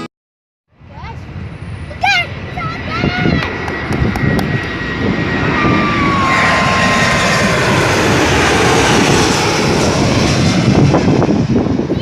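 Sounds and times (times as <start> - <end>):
airliner engines roaring overhead: 0.7 - 12.0.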